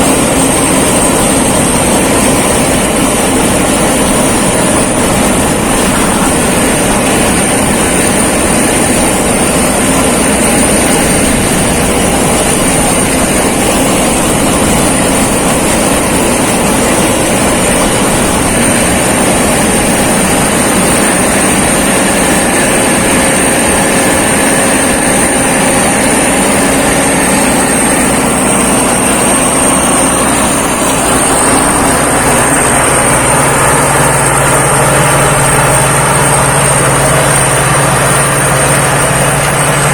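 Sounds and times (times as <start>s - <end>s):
combine harvester running: 0.0s - 39.9s
high-pitched whine: 0.0s - 39.9s.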